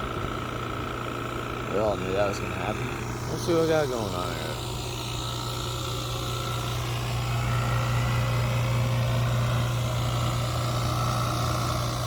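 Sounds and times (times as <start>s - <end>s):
crane engine drone: 0.0s - 12.0s.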